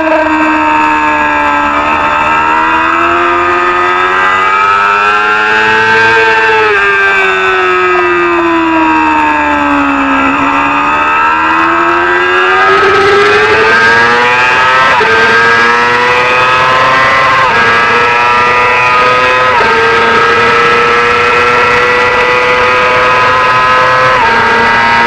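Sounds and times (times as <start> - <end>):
motorcycle engine accelerating: 0.0 - 25.0
quick gear upshifts: 0.0 - 25.0.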